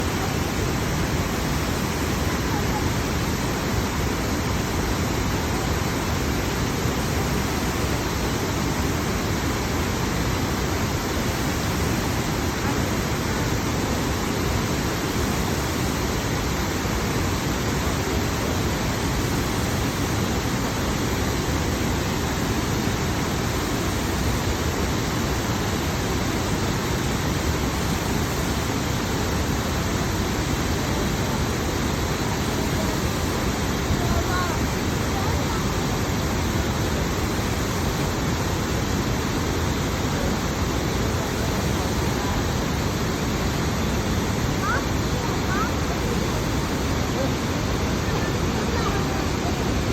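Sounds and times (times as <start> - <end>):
large waterfall rushing: 0.0 - 49.9.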